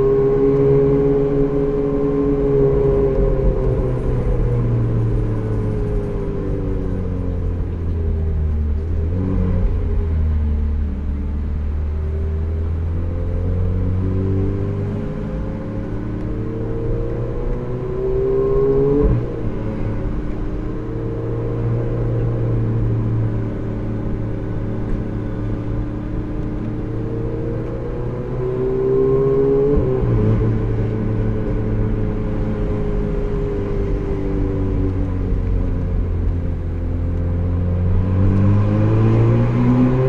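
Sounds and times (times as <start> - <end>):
car engine revving and upshifting: 0.0 - 40.0.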